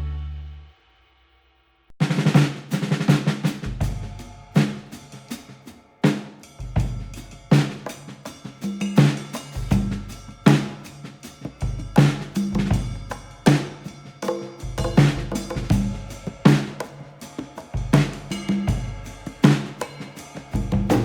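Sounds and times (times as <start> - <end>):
music with steady drum beat: 2.0 - 21.0.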